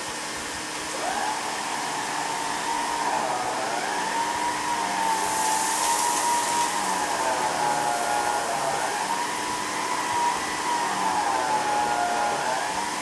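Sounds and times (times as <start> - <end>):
vacuum cleaner on carpet: 0.0 - 13.0.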